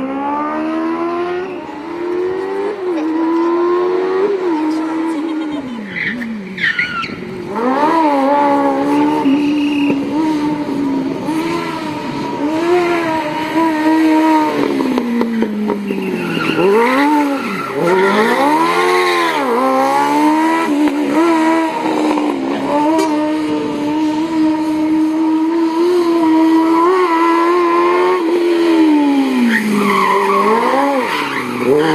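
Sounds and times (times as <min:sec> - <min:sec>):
motorcycle engine revving hard: 0:00.0 - 0:05.6, 0:07.5 - 0:31.9.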